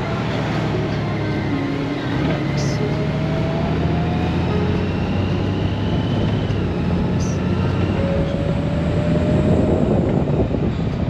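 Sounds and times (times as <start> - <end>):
motorcycle engine hum: 0.0 - 11.0
wind and road noise: 0.0 - 11.0.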